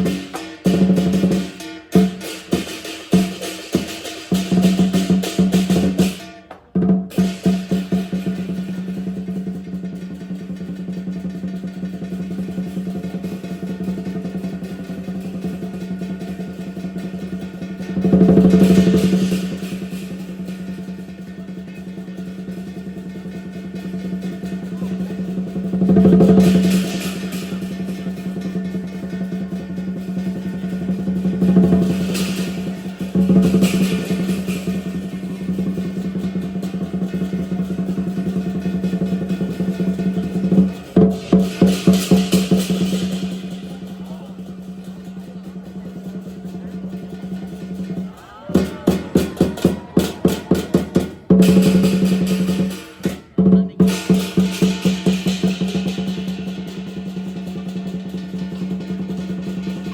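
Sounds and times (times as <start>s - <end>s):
cymbal crashes: 0.0s - 6.4s, 7.1s - 48.0s, 48.8s - 59.9s
fast drum roll: 0.0s - 59.9s.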